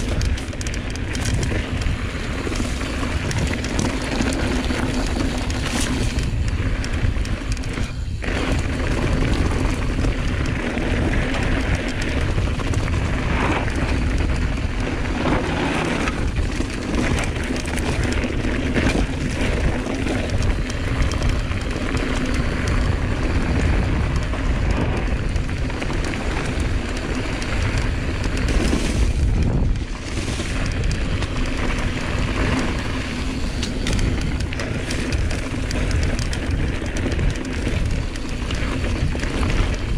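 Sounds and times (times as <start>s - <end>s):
bike knocks and rattles: 0.0s - 39.9s
wind and tyres rumbling on microphone: 0.0s - 39.9s.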